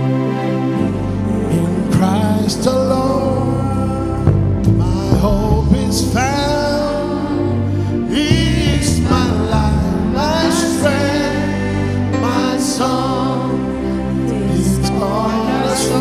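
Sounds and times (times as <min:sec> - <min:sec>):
hymn singing: 0:00.0 - 0:16.0
low instrumental accompaniment: 0:00.0 - 0:16.0.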